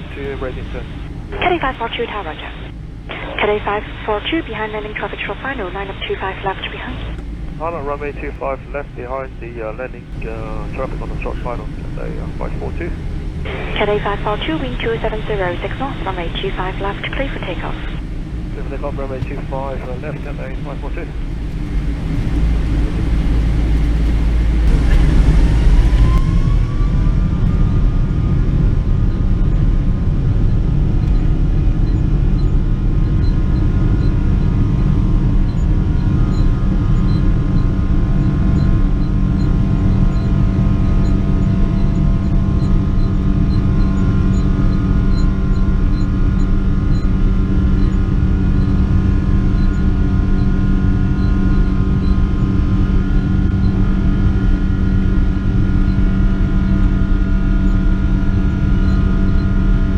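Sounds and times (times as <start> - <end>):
jet engines at takeoff thrust: 0.0 - 59.9.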